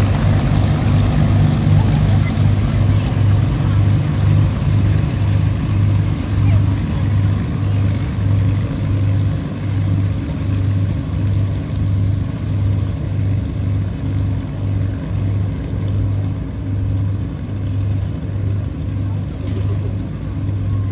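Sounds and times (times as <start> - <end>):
propeller aircraft engines droning: 0.0 - 20.9.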